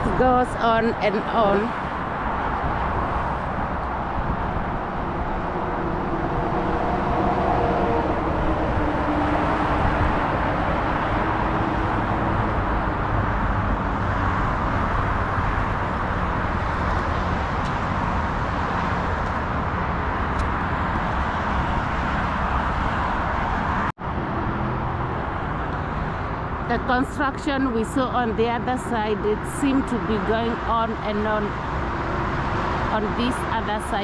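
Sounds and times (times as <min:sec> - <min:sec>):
motorway traffic rushing: 0:00.0 - 0:34.0.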